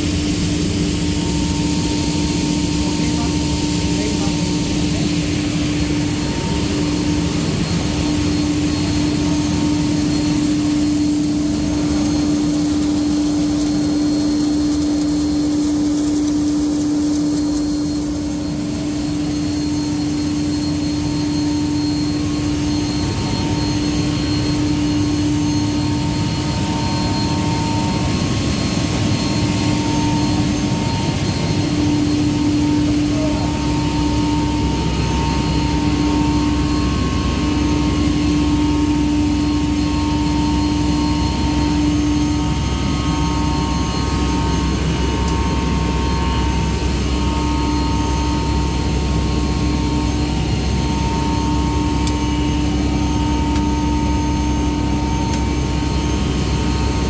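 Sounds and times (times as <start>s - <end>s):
constant machine hum: 0.0s - 57.0s
machine rush of motors and fans: 0.0s - 57.0s.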